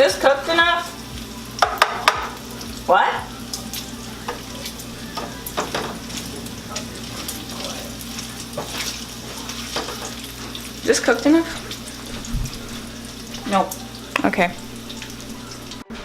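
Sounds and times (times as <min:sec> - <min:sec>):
bacon sizzling in a pan: 0:00.0 - 0:16.0.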